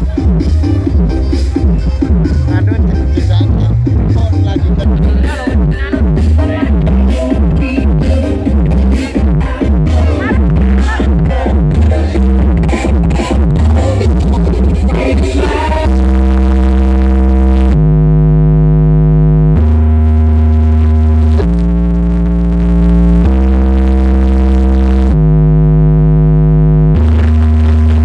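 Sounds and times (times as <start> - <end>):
heavy deep bass: 0.0 - 28.0
synthesizer chords: 0.0 - 28.0.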